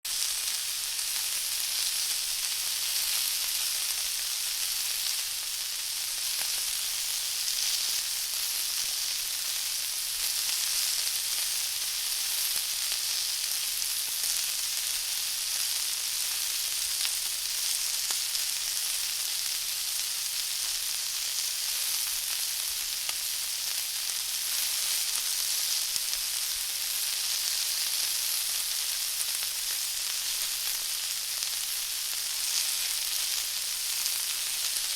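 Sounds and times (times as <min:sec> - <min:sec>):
chicken sizzling in hot oil: 0:00.0 - 0:34.9.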